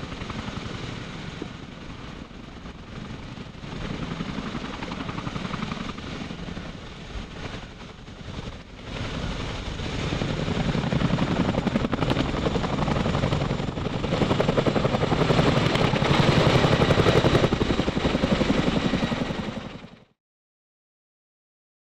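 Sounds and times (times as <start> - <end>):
helicopter turbine and rotor noise: 0.0 - 20.2.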